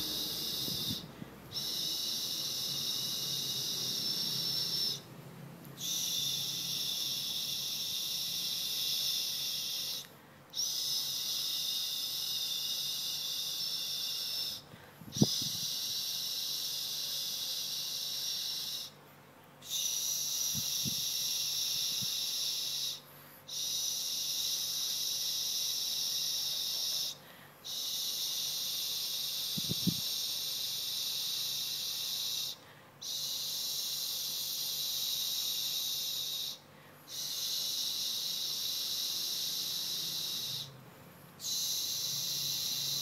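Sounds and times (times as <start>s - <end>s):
high-pitched hiss: 0.0s - 5.1s, 5.8s - 19.0s, 19.6s - 40.8s, 41.4s - 43.0s.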